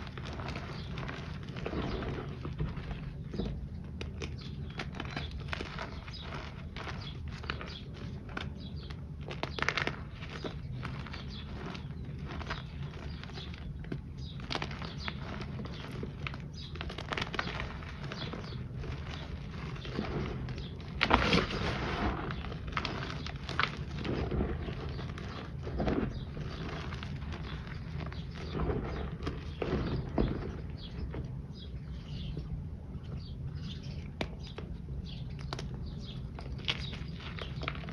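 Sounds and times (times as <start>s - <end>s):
powder chunks crunching in hands: 0.0s - 37.9s
steady low hum: 0.0s - 37.9s.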